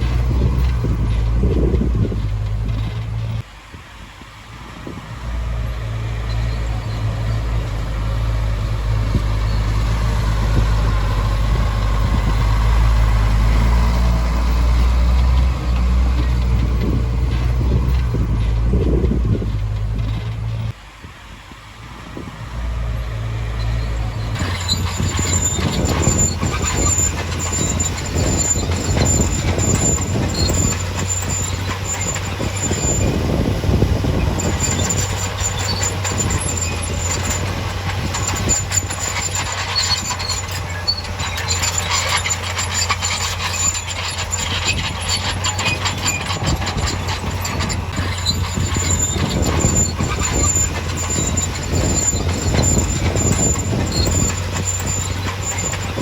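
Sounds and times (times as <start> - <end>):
steel tracks clanking: 0.0 - 21.0, 21.7 - 56.0
bulldozer engine under load: 0.0 - 56.0
high squeal: 5.4 - 20.7, 22.7 - 56.0.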